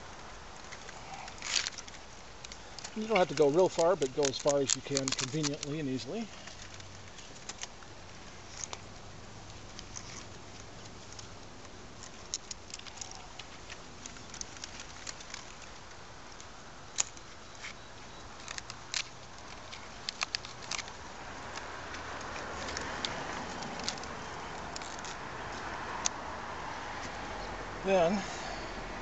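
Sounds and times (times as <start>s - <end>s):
palm fronds crackling and snapping: 0.0s - 27.3s
light rustling of fronds: 0.0s - 28.8s.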